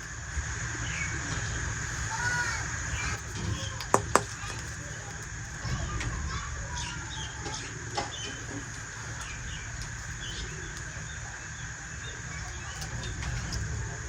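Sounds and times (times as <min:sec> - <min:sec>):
small birds chirping: 0:00.0 - 0:14.0
steady background hum: 0:00.0 - 0:14.0.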